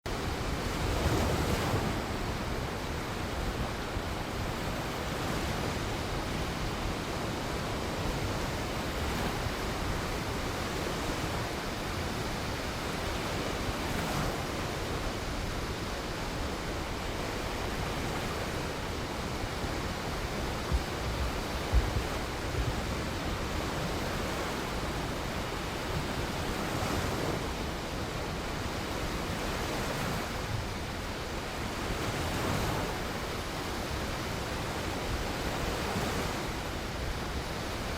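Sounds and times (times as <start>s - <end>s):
waves washing onto shore: 0.1s - 37.9s.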